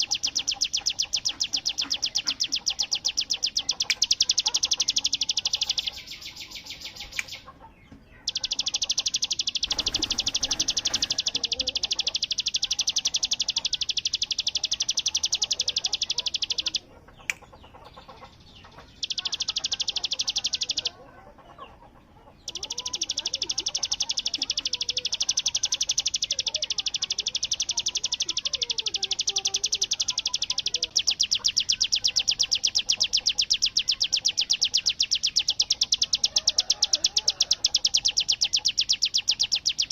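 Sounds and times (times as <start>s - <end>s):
bird high rapid trills: 0.0s - 7.6s, 8.2s - 17.0s, 17.7s - 39.9s.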